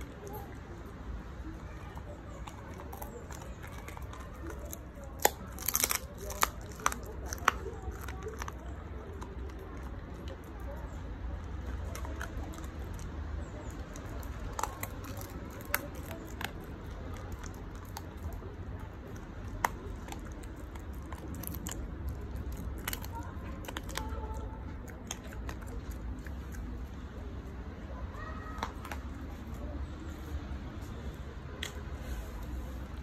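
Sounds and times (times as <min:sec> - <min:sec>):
puppy chewing crunchy bone: 0:00.0 - 0:33.0.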